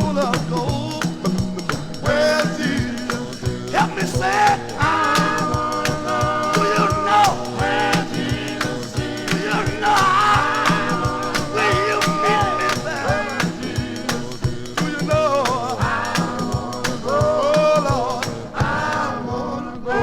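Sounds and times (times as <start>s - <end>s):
steady beat: 0.0s - 19.1s
male group singing in harmony: 0.0s - 20.0s.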